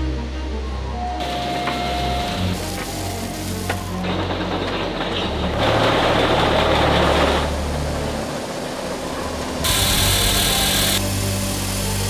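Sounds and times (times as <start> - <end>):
hissy machine noise: 0.0 - 12.0
rough machine noise: 1.2 - 12.0.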